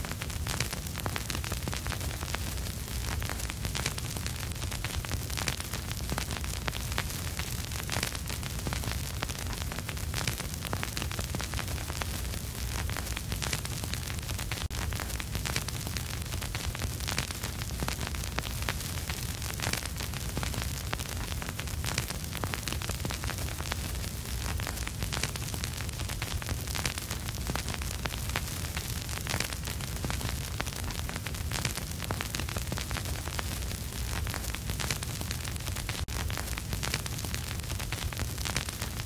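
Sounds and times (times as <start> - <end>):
vinyl record crackle and hiss: 0.0 - 39.0.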